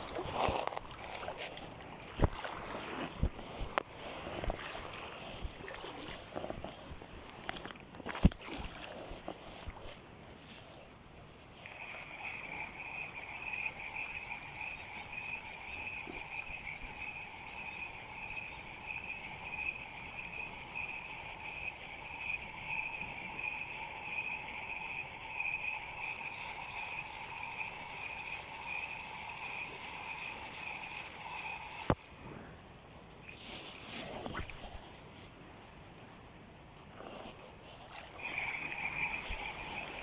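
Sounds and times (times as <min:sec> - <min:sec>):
fishing reel whirring: 0:00.0 - 0:34.9, 0:37.6 - 0:40.0
reel click: 0:00.0 - 0:35.0, 0:37.2 - 0:40.0.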